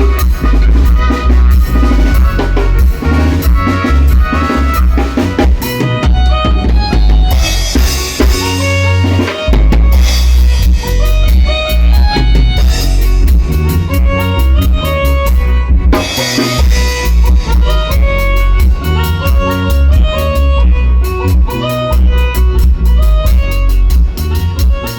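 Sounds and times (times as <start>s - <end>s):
bass line: 0.0s - 24.9s
drum kit beat: 0.0s - 24.9s
quick melodic notes: 0.0s - 24.9s.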